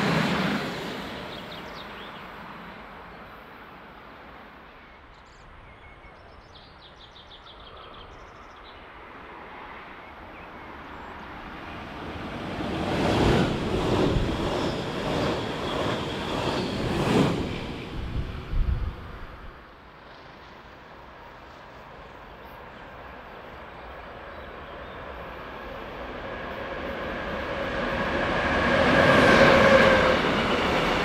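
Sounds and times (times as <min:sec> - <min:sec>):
train passing: 0:00.0 - 0:05.1, 0:07.8 - 0:31.0.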